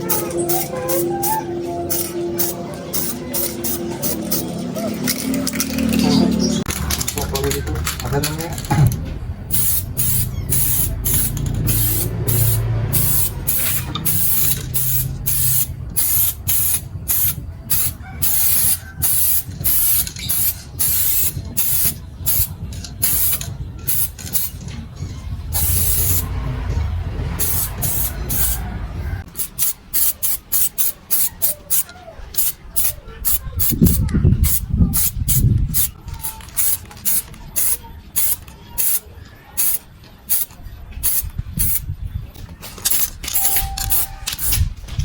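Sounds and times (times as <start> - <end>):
spray can hissing bursts: 0.0 - 5.8, 9.5 - 24.6, 25.6 - 26.3, 27.4 - 28.6, 29.2 - 39.0, 39.6 - 41.8, 42.6 - 44.7.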